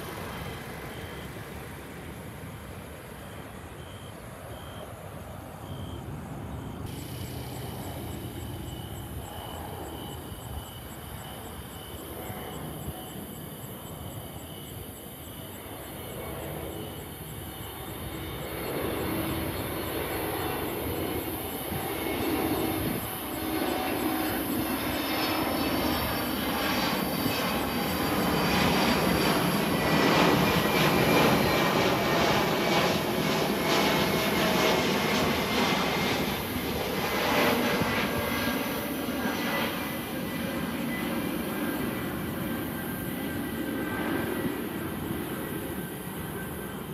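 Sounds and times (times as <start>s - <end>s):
jet airliner engines approaching: 0.0s - 46.9s.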